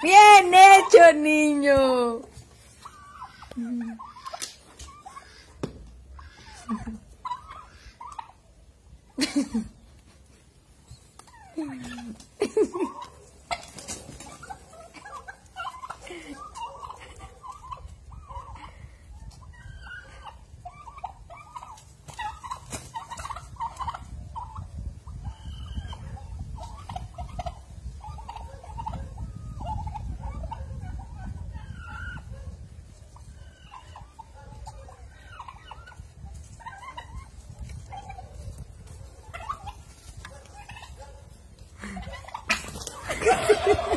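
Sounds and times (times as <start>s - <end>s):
turkeys yelping: 0.0s - 1.5s, 2.3s - 43.9s.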